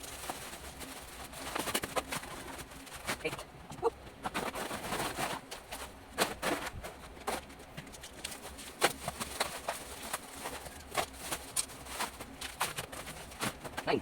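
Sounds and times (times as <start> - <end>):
parcels being handled: 0.0 - 14.0.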